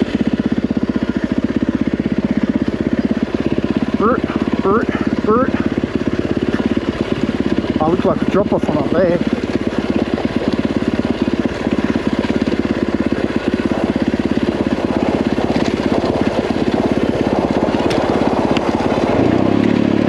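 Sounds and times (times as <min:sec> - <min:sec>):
motorcycle engine thumping: 0:00.0 - 0:20.0.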